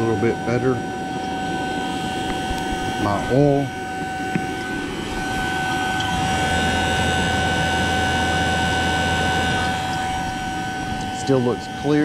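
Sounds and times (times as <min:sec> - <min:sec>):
vacuum pump motor humming: 0:00.0 - 0:12.0.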